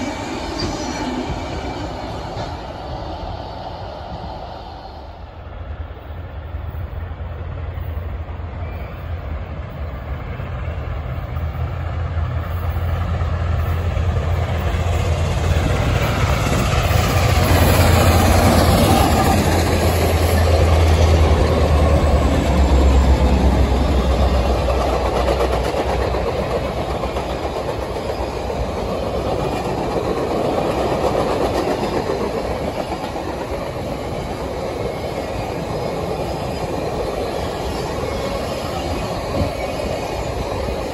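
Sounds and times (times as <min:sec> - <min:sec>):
diesel locomotive drone: 0:00.0 - 0:40.9
train wheels rumbling on rails: 0:00.0 - 0:40.9.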